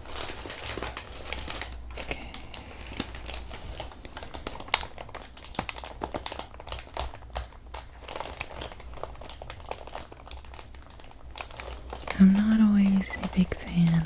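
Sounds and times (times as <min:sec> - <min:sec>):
paper crinkling and rustling: 0:00.0 - 0:14.0.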